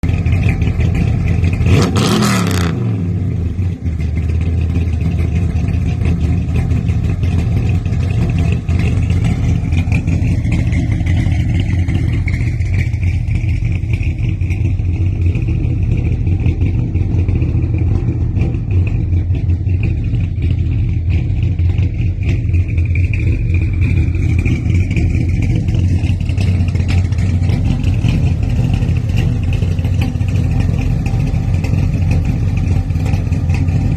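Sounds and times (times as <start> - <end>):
car engine revving and idling: 0.0 - 33.9.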